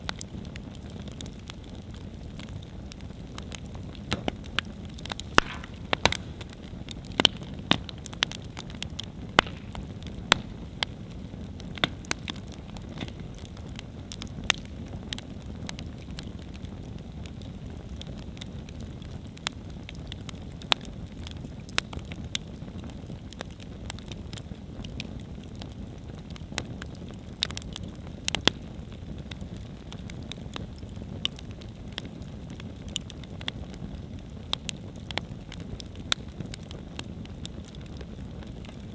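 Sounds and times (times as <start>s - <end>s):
burning wood crackling: 0.0s - 38.9s
low rumble of flames: 0.0s - 38.9s.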